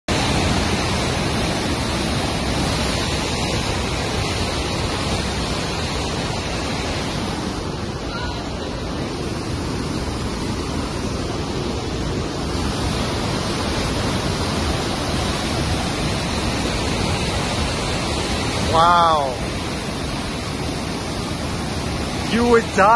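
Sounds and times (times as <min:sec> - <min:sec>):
river rapids roaring: 0:00.1 - 0:22.9.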